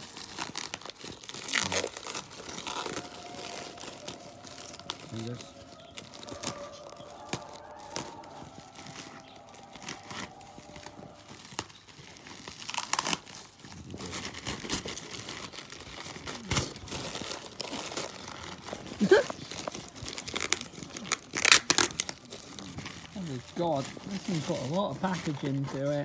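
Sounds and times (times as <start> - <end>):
packaging crinkling and tearing: 0.0 - 26.0.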